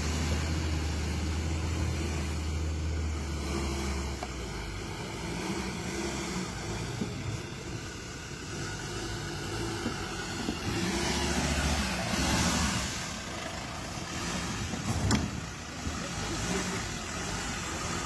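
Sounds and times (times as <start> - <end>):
engine running and revving: 0.0 - 18.0.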